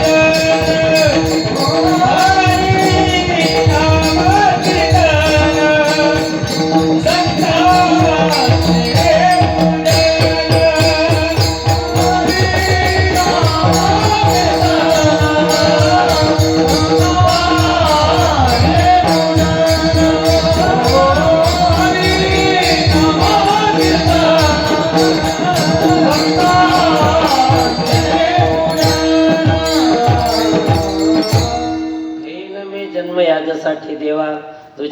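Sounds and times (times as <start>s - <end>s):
mridang drum strokes: 0.0s - 32.2s.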